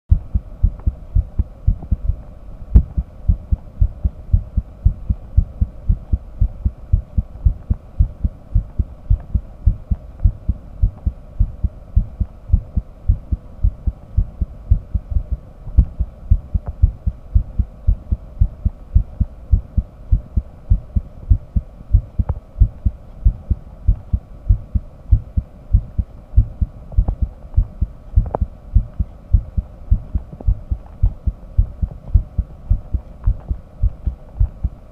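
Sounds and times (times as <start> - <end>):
faint steady hum: 0.1 - 34.9
heartbeat thumps: 0.1 - 34.9.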